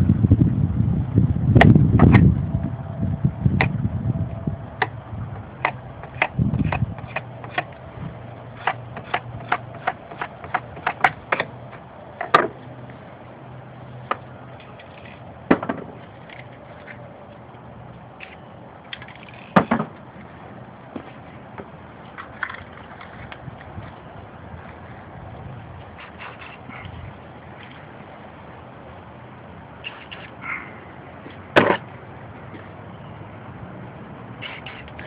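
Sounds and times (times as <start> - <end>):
low rumbling noise: 0.0 - 35.0.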